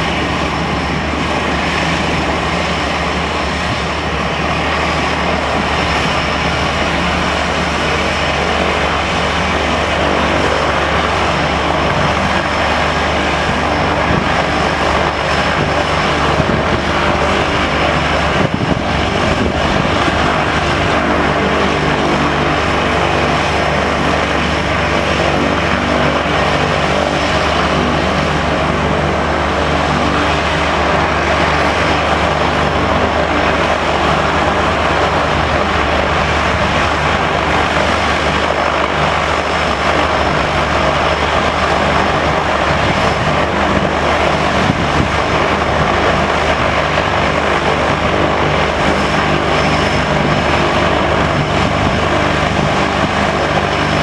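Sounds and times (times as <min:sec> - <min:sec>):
turboprop engine droning: 0:00.0 - 0:54.0.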